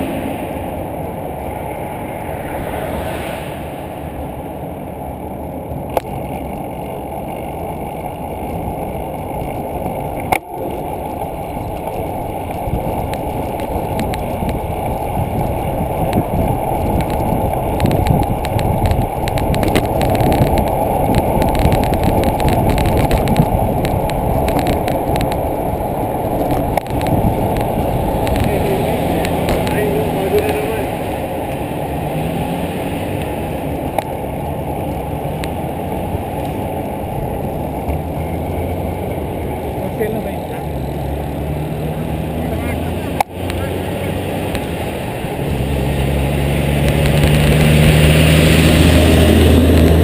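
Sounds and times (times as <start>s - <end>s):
tyre and road rumble: 0.0s - 50.0s
wind buffeting microphone: 0.0s - 50.0s.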